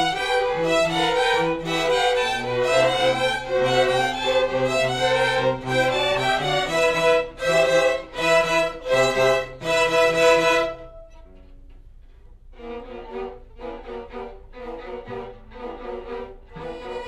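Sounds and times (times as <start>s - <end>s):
string orchestra playing chords: 0.0s - 11.5s, 12.5s - 17.0s.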